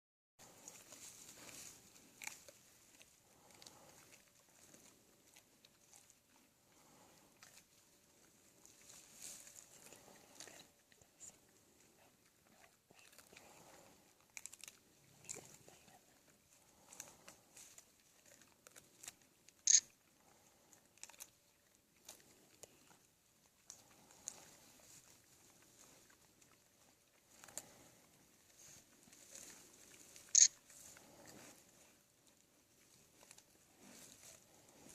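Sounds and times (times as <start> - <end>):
bears chewing peanuts: 0.4 - 34.9.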